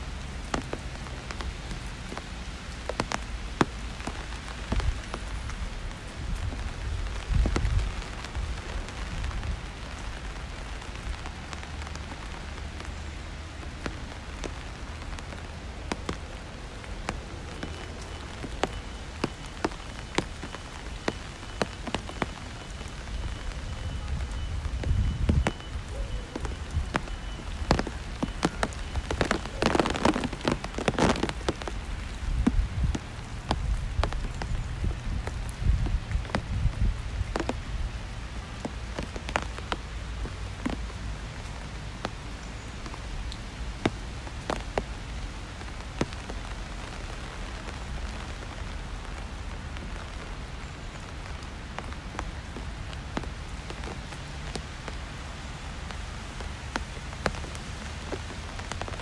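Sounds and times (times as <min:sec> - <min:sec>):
close raindrop impacts: 0:00.0 - 0:59.0
rain hissing on wet street: 0:00.0 - 0:59.0.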